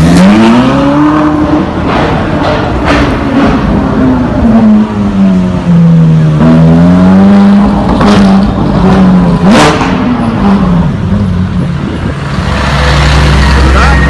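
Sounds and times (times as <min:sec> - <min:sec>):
supercar engine revving: 0:00.0 - 0:14.0.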